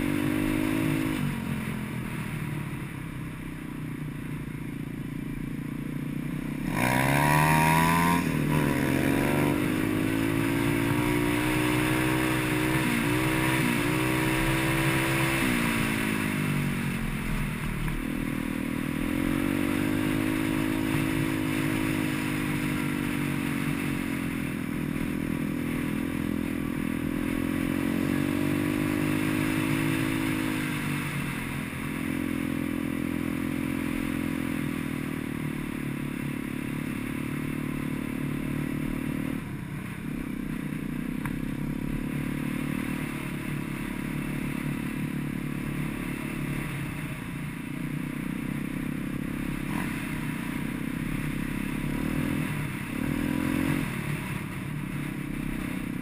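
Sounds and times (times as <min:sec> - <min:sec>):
motorbike engine running: 0:00.0 - 0:56.0.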